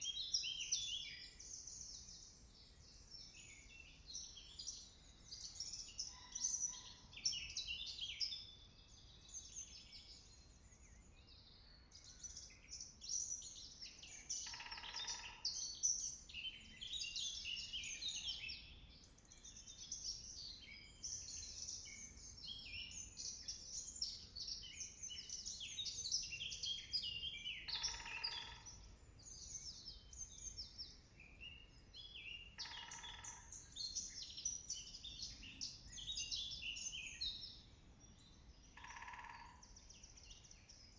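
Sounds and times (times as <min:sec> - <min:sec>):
songbirds singing in chorus: 0:00.0 - 0:40.9.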